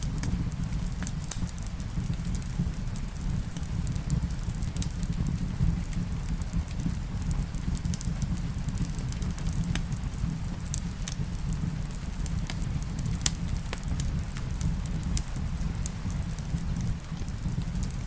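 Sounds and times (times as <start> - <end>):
rain falling: 0.0 - 18.0
wood fire crackling and popping: 0.0 - 18.0.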